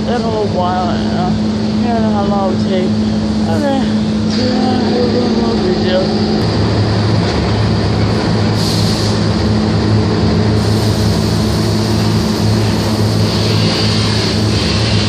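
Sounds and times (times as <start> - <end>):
shop machinery humming: 0.0 - 15.0.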